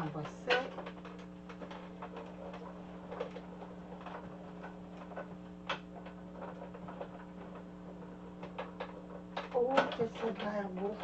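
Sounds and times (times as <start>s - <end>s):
embossing machine ticks and clicks: 0.0s - 11.0s
low machine hum: 0.0s - 11.0s.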